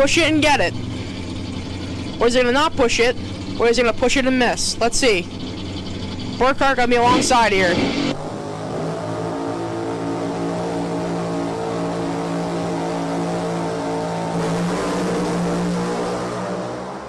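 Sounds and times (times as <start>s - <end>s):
drag racing engines droning: 0.0s - 17.0s.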